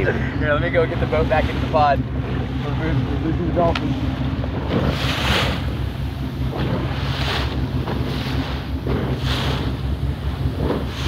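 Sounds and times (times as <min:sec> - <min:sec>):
boat engine humming: 0:00.0 - 0:11.0
water washing past hull: 0:00.0 - 0:11.0.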